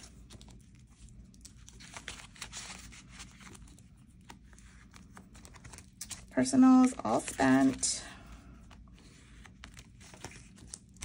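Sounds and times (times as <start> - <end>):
paper banknotes rustling: 0.0 - 11.0.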